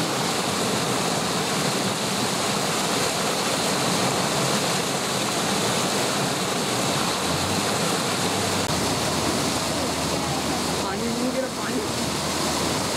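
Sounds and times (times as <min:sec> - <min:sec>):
fast-flowing water rushing: 0:00.0 - 0:12.9.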